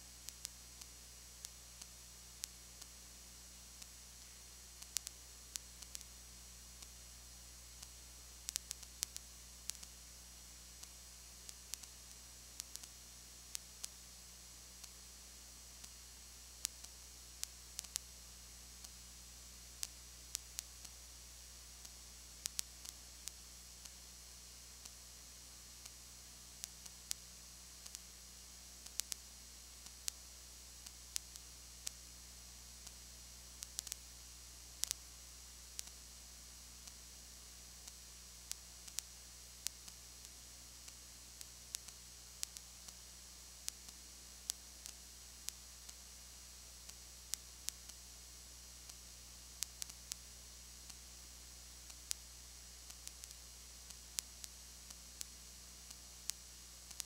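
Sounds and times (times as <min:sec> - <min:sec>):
low electrical hum: 0:00.0 - 0:57.0
sharp clicks and crackles: 0:00.3 - 0:06.2, 0:07.7 - 0:18.2, 0:18.8 - 0:19.0, 0:19.7 - 0:21.0, 0:21.8 - 0:25.0, 0:25.8 - 0:28.2, 0:28.8 - 0:32.1, 0:33.6 - 0:34.2, 0:34.8 - 0:36.0, 0:36.8 - 0:37.2, 0:37.8 - 0:46.2, 0:46.8 - 0:57.0.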